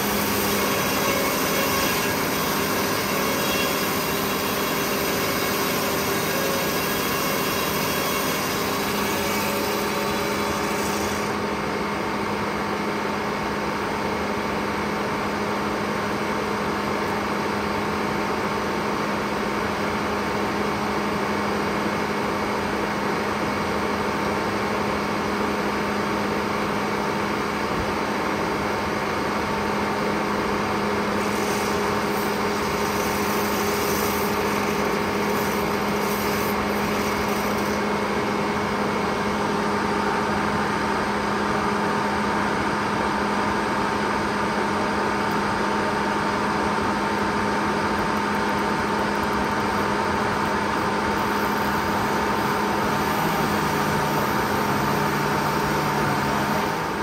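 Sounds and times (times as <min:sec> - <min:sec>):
sawmill mechanical hum: 0:00.0 - 0:57.0.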